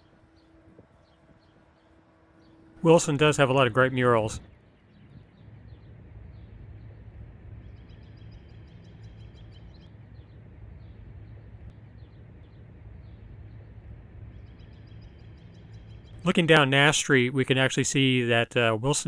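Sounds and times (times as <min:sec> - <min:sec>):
songbirds chirping: 0:00.0 - 0:19.0
steady low hum: 0:00.0 - 0:19.0.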